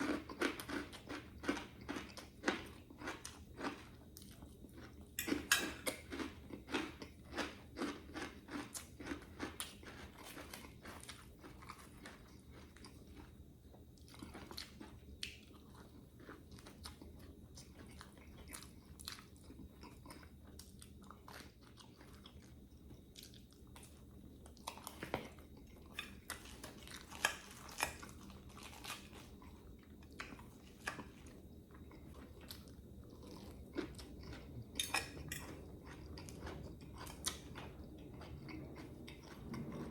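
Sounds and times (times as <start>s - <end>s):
person chewing crisp food: 0.0s - 39.9s.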